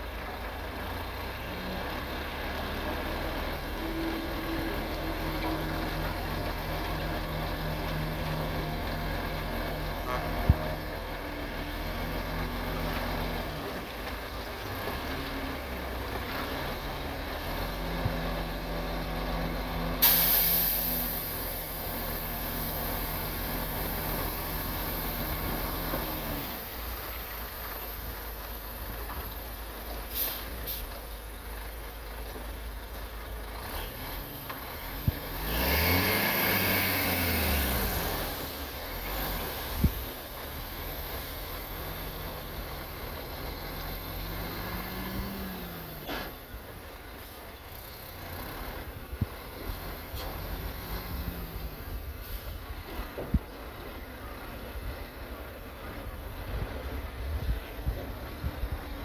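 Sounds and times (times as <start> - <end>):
heavy diesel engine revving: 0.0 - 59.0.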